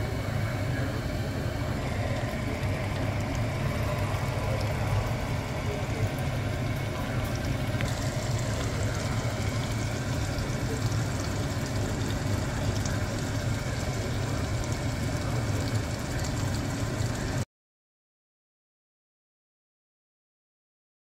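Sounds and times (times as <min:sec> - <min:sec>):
sauce bubbling in a wok: 0:00.0 - 0:17.4
steady low hum: 0:00.0 - 0:17.4.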